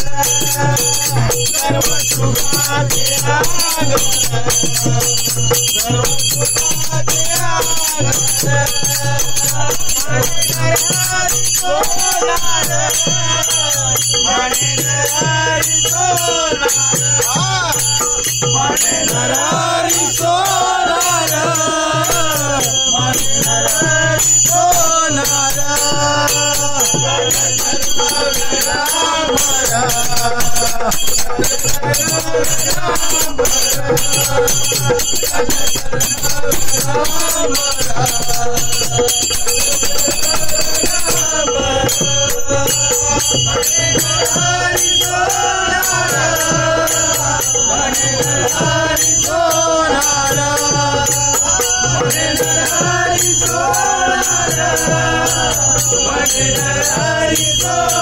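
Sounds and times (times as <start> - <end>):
hand cymbals clashing: 0.0 - 58.0
men singing devotional song: 0.0 - 58.0.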